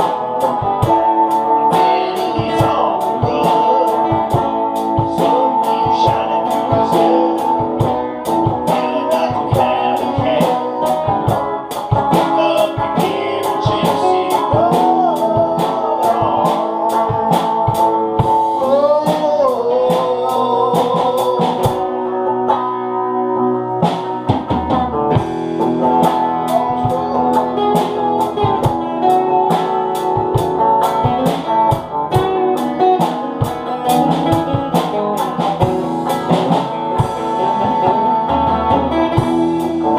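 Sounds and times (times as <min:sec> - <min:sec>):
blues band music: 0:00.0 - 0:39.9
drum kit beat: 0:00.0 - 0:39.9
guitar: 0:00.0 - 0:39.9.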